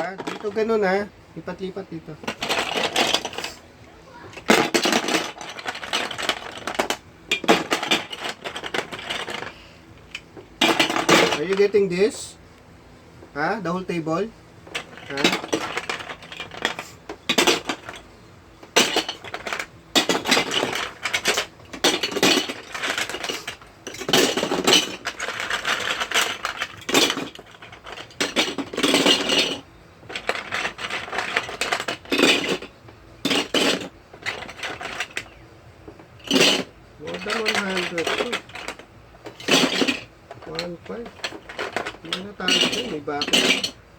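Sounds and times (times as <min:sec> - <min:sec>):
plastic bricks clattering: 0:00.0 - 0:00.8, 0:02.0 - 0:03.6, 0:04.2 - 0:11.8, 0:14.6 - 0:43.8.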